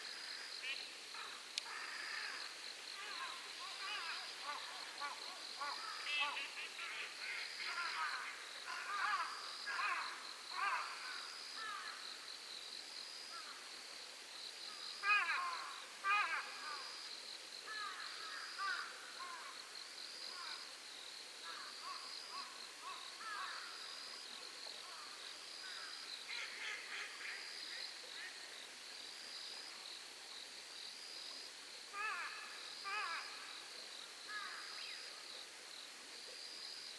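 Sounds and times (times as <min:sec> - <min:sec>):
insects trilling: 0:00.0 - 0:13.8, 0:14.4 - 0:36.9.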